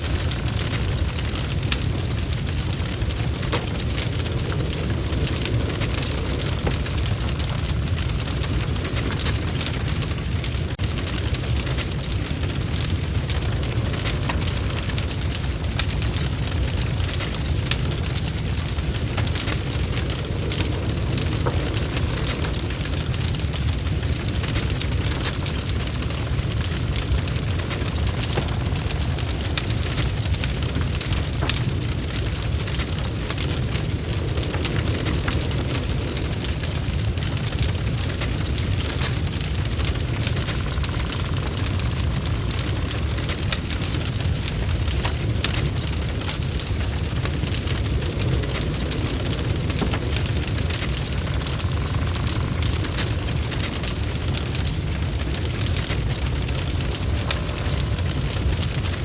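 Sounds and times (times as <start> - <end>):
bonfire burning: 0.0 - 59.0
fire crackles and pops: 0.0 - 59.0
low rumble of flames: 0.0 - 59.0.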